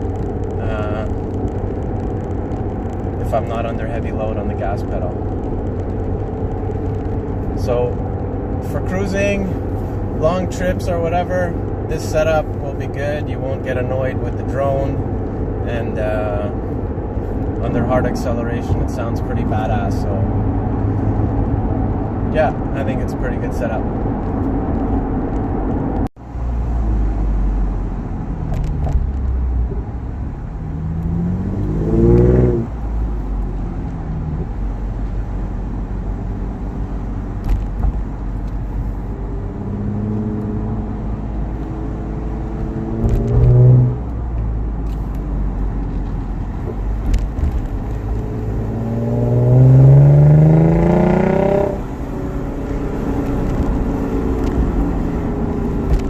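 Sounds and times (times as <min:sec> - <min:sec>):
car engine revving while driving: 0:00.0 - 0:56.0.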